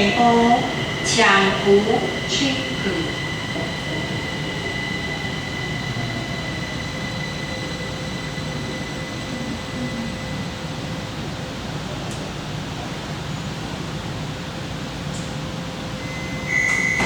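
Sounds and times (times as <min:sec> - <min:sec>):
high train whine: 0:00.0 - 0:17.0
train running rumble: 0:00.0 - 0:17.0.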